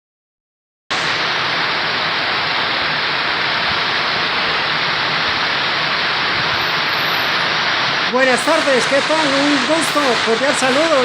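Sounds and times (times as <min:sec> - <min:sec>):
heavy rain downpour: 0:00.9 - 0:11.0.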